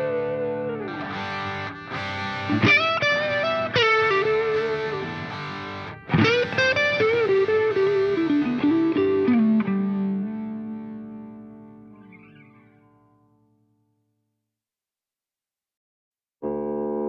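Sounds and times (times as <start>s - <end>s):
guitar melody with bent notes: 0.0s - 13.9s.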